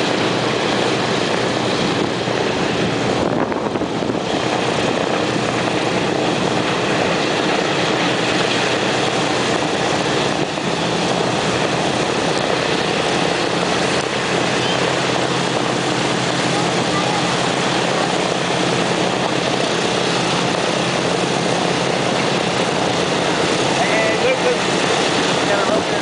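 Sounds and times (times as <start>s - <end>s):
radial aircraft engines idling: 0.0s - 26.0s.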